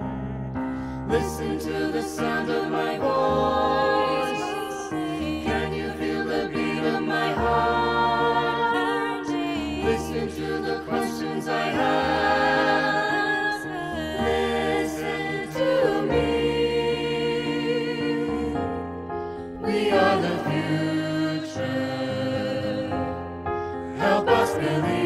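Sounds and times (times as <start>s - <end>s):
choir singing in harmony: 1.0s - 25.0s.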